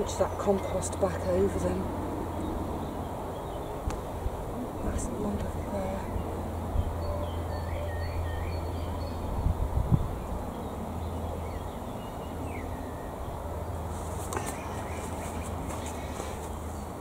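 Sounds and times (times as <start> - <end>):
wind rumbling on microphone: 0.0 - 7.6, 8.2 - 17.0
small birds chirping: 0.0 - 17.0.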